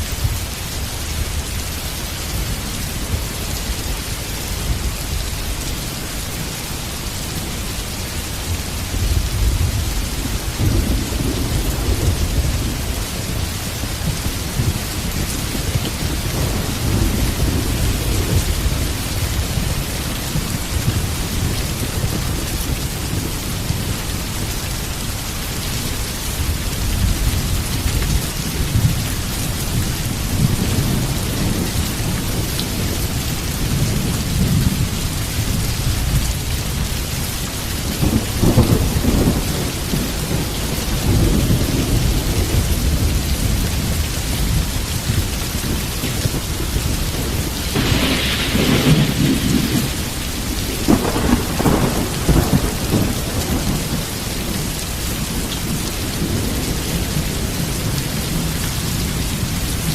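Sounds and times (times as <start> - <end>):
heavy rain: 0.0 - 59.9
low rolling thunder: 2.4 - 25.0, 26.0 - 59.9.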